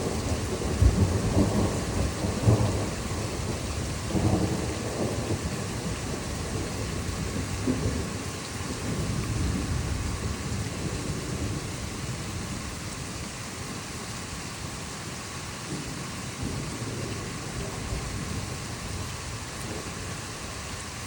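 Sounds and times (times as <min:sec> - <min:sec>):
rolling thunder rumble: 0:00.0 - 0:13.9, 0:15.7 - 0:20.8
heavy rain falling: 0:00.0 - 0:21.0.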